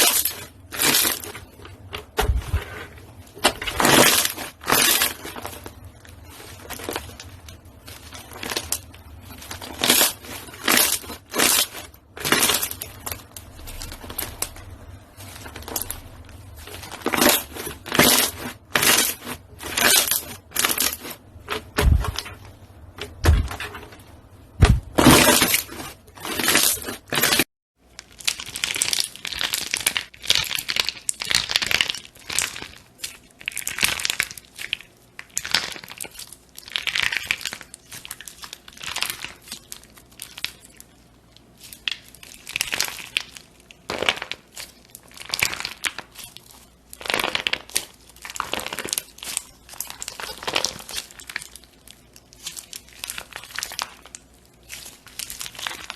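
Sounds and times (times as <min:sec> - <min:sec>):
crunchy slime crackling: 0:00.0 - 0:55.9.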